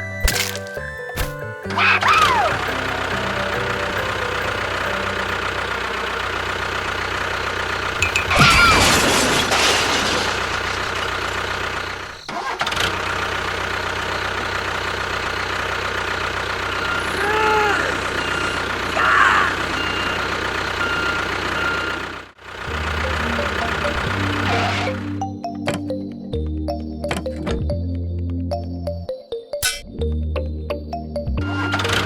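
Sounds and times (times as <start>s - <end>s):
engine-like running hum: 0.0s - 28.4s, 31.4s - 32.0s.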